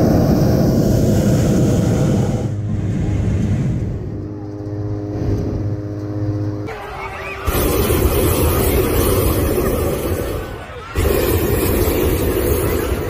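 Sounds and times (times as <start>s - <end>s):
propane burner roaring: 0.0s - 13.0s
steady low drone: 0.0s - 13.0s.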